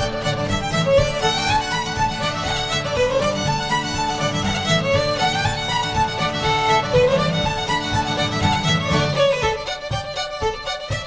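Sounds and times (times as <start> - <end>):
instrumental music with gliding melody: 0.0 - 11.0.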